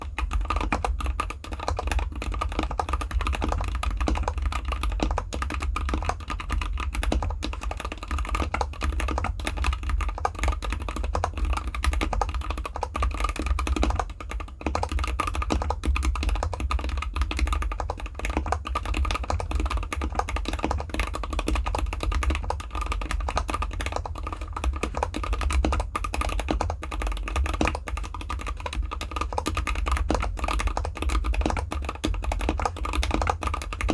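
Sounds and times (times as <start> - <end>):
fast typing on mechanical keyboard: 0.0 - 33.9.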